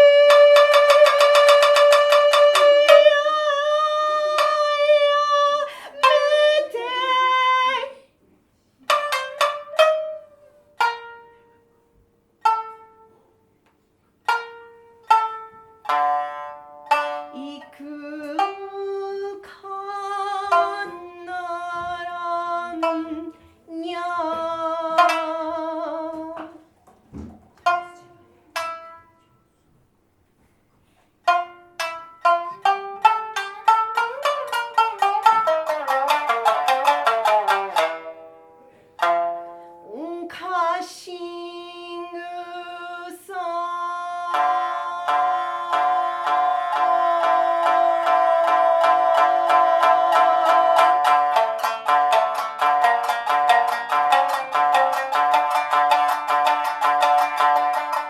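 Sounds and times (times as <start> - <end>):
plucked string notes: 0.0 - 7.5, 8.9 - 13.4, 14.2 - 29.4, 31.2 - 40.6, 42.0 - 58.0.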